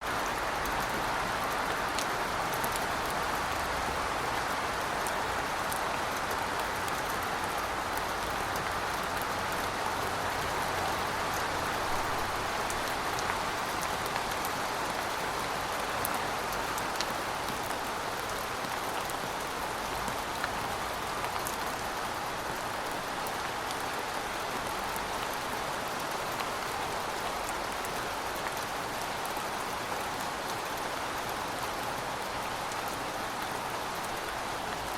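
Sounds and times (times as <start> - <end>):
rain falling on pavement: 0.0 - 34.9.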